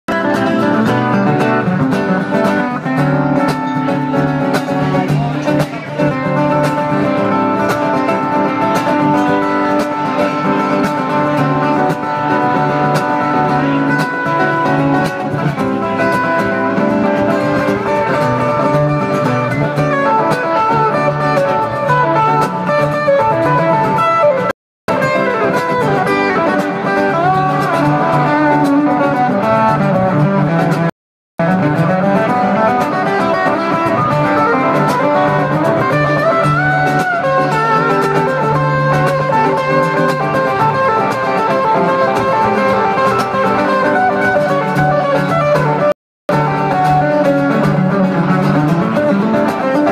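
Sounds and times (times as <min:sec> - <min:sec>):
acoustic guitars playing: 0:00.1 - 0:49.9.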